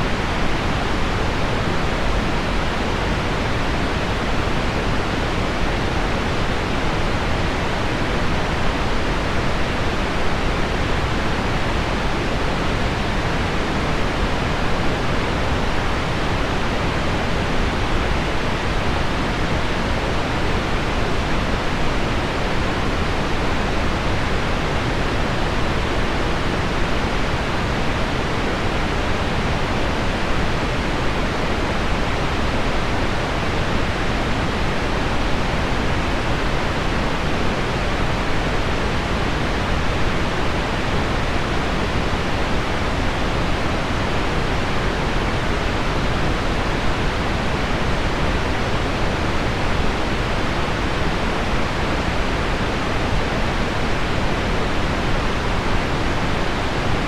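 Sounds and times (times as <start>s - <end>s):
low pink noise: 0.0s - 57.0s.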